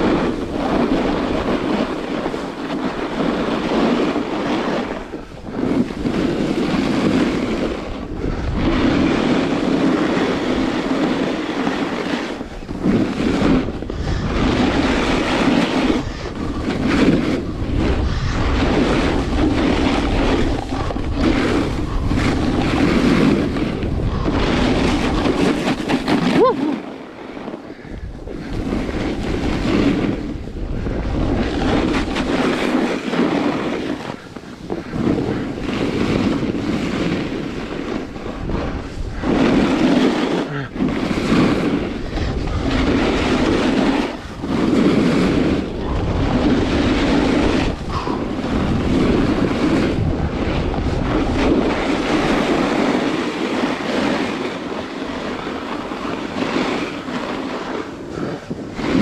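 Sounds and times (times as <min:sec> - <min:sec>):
ski edges scraping snow: 0:00.0 - 0:59.0
wind rushing over microphone: 0:00.0 - 0:59.0.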